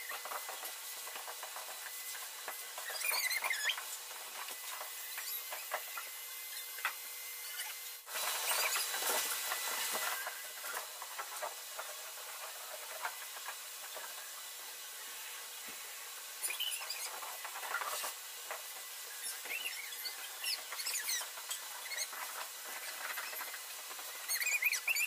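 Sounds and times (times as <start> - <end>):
shop vac running: 0.0 - 25.0.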